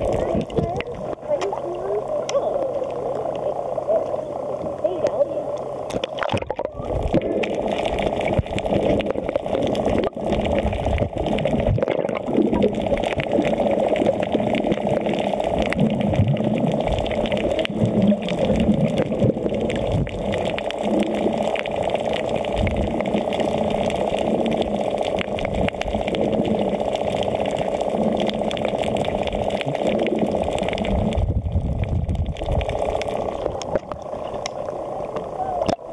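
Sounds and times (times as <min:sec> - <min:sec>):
bubbles crackling: 0:00.0 - 0:35.9
muffled underwater water rushing: 0:00.0 - 0:35.9.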